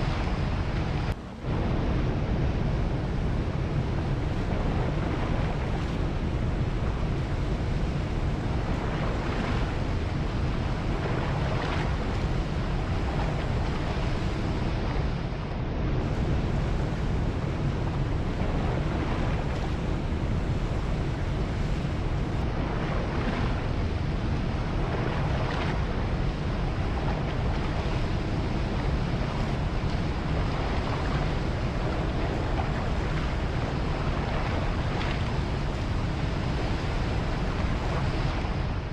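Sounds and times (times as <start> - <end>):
ocean surf washing: 0.0 - 38.9
wind on microphone: 0.0 - 38.9.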